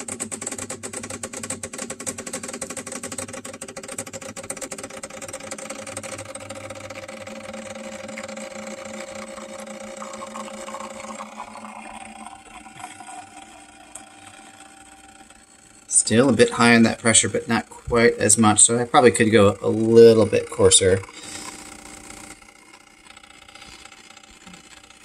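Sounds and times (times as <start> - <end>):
espresso machine pump humming: 0.0 - 25.0.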